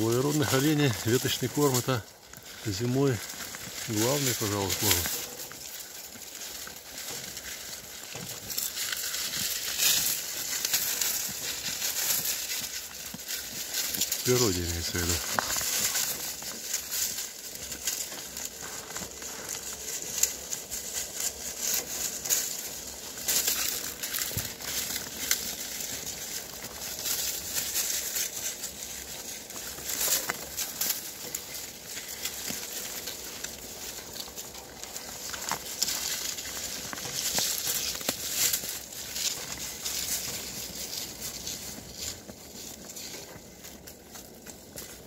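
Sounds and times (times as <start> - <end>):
deer crunching twigs: 0.0 - 45.0
dry leaves rustling: 0.0 - 45.0.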